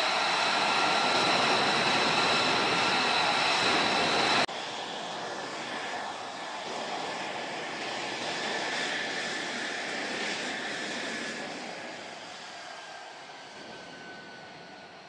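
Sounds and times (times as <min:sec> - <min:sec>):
jet engine whine: 0:00.0 - 0:15.0.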